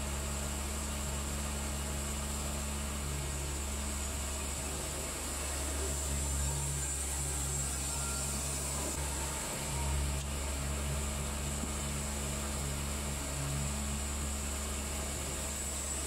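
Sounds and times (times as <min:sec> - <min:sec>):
band sawmill running: 0:00.0 - 0:16.0.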